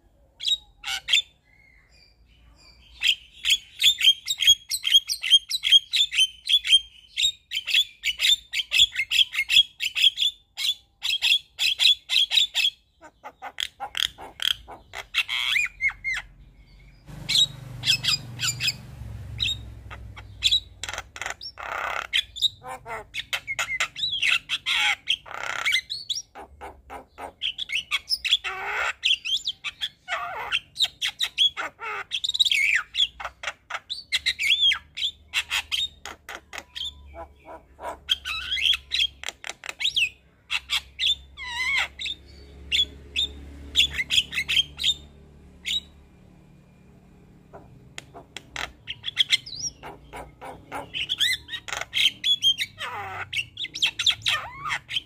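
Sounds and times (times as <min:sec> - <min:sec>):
bird singing: 0:00.0 - 0:55.0.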